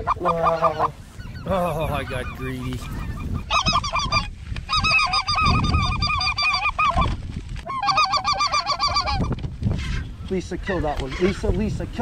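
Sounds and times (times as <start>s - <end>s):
geese yelping: 0.0s - 11.6s.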